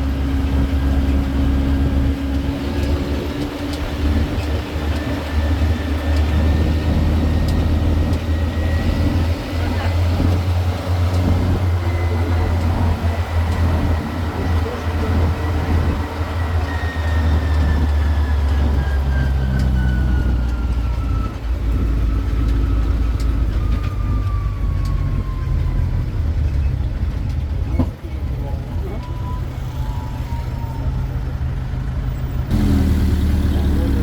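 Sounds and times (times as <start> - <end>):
vehicle engine humming: 0.0 - 29.0, 30.3 - 34.0.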